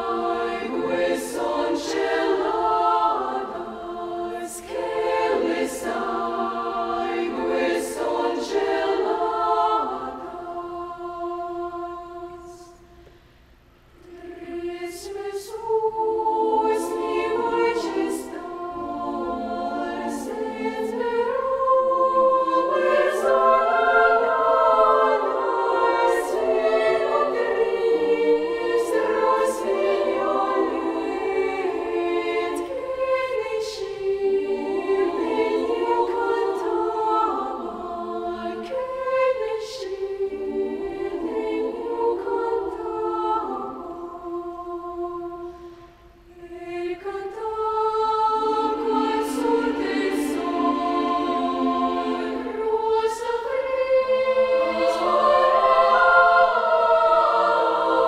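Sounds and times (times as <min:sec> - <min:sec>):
children's choir singing: 0:00.0 - 0:13.0, 0:14.0 - 0:58.0.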